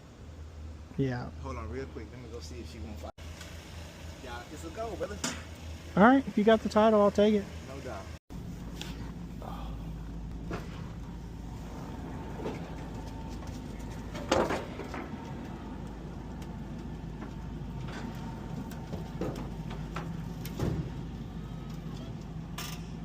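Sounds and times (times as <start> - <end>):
vehicle engine running: 1.5 - 23.0.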